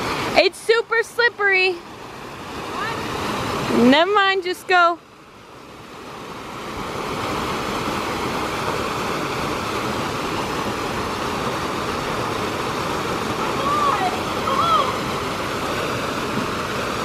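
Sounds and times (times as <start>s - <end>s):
waterfall pouring into pool: 0.0s - 4.0s, 5.2s - 17.0s.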